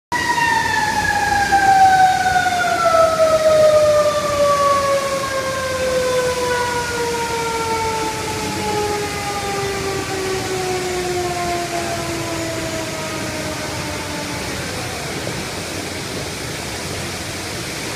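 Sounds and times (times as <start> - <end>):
fire engine siren winding down: 0.1 - 17.9
gushing hydrant water: 0.1 - 17.9.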